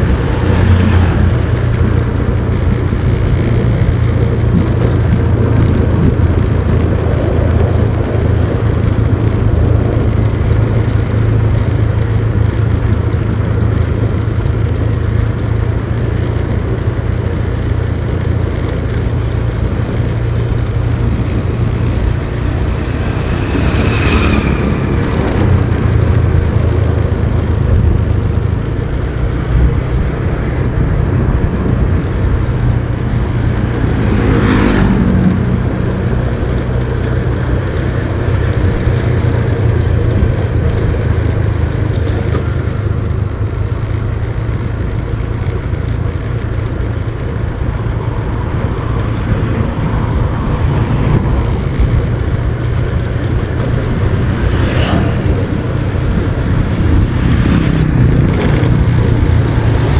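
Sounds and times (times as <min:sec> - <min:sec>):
motorcycle running: 0:00.0 - 0:59.9
wind and road noise: 0:00.0 - 0:59.9.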